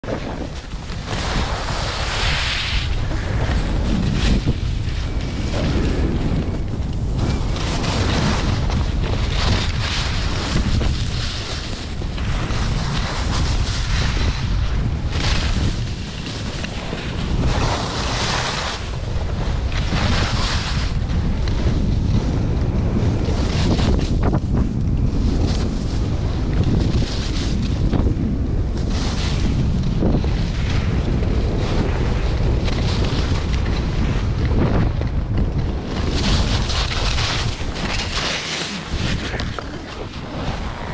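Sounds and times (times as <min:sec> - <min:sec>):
skis scraping over packed snow: 0:00.0 - 0:40.9
wind buffeting microphone: 0:00.0 - 0:40.9.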